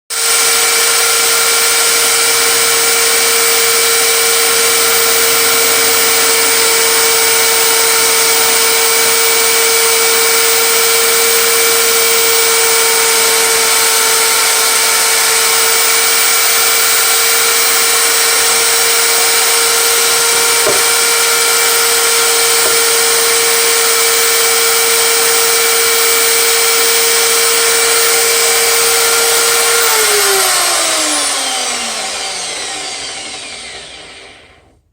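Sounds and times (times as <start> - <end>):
power tool motor whining: 0.2 - 34.7.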